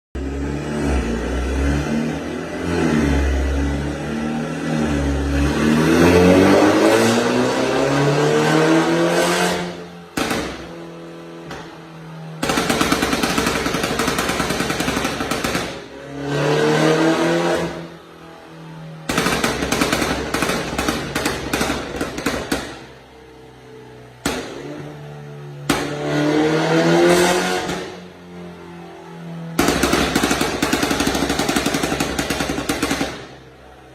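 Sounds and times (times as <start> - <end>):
car engine revving: 0.2 - 33.9.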